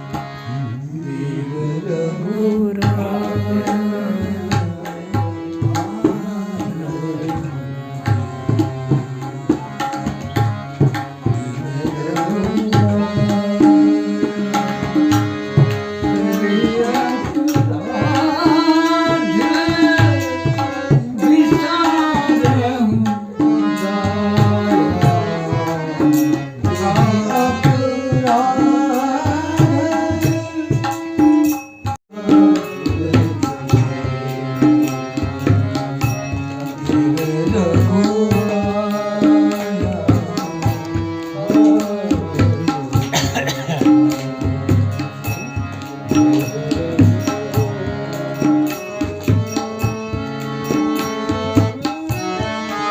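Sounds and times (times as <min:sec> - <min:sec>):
harmonium melody: 0:00.0 - 0:52.9
tabla rhythm: 0:00.0 - 0:52.9.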